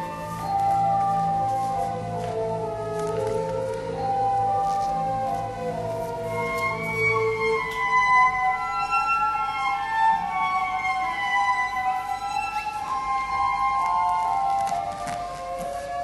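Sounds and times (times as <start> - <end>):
slow cello music: 0.0 - 16.0.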